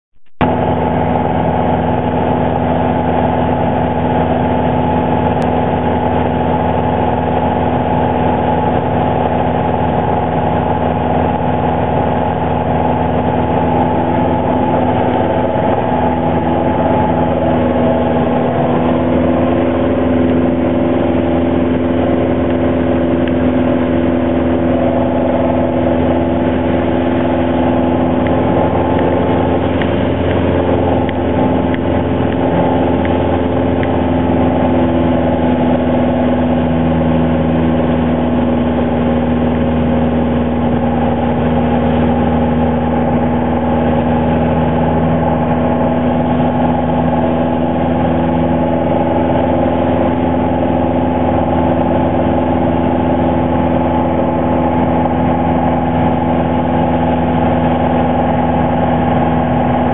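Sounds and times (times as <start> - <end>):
light aircraft engine droning: 0.4 - 59.9.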